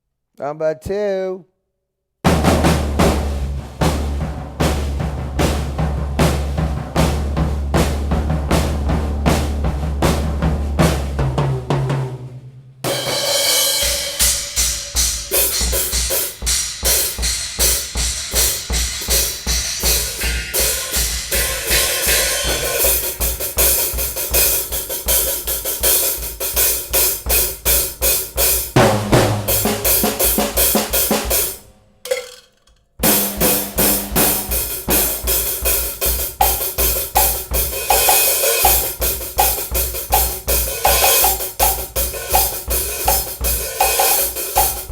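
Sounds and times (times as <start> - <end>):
drum kit groove: 2.2 - 44.9.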